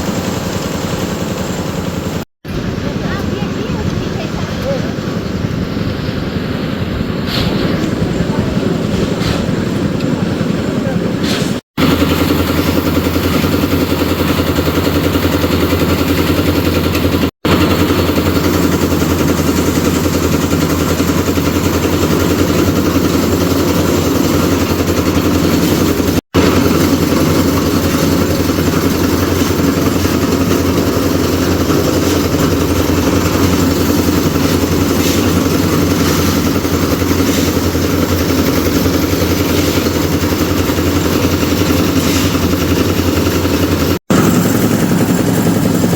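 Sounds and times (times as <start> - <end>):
concrete mixer engine running: 0.0 - 45.9.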